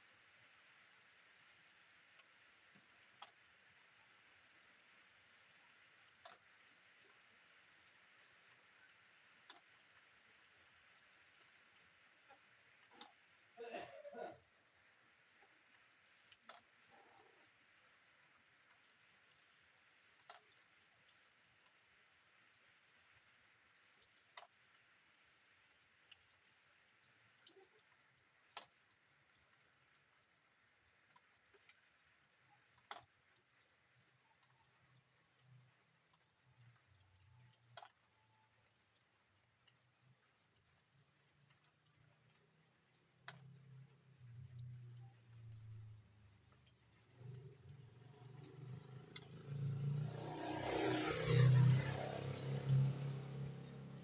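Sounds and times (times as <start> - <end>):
faint steady rain hiss: 0.0 - 54.0
sharp drips ticking: 0.0 - 54.0.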